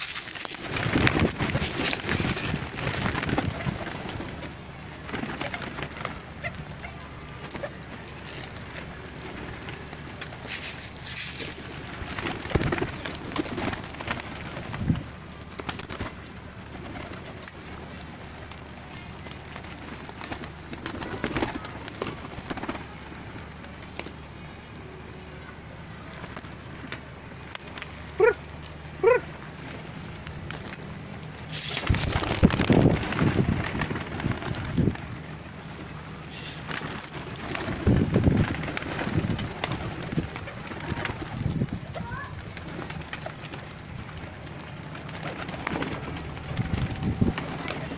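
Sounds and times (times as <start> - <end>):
pigeons cooing: 0.0 - 47.9
wings flapping: 0.0 - 47.9.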